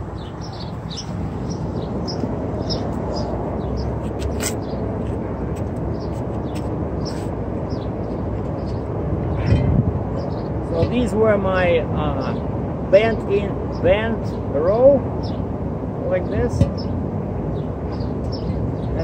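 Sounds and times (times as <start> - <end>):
low outdoor rumble: 0.0 - 19.0
small birds chirping: 0.0 - 19.0.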